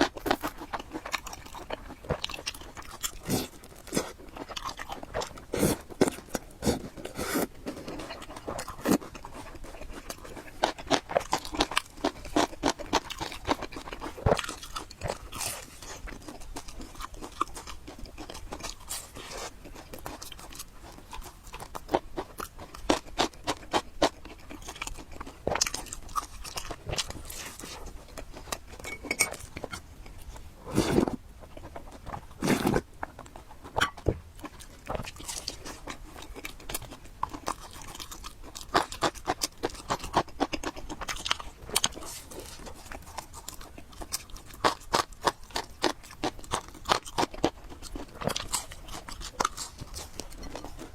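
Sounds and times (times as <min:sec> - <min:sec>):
chewing and crunching food: 0:00.0 - 0:50.9.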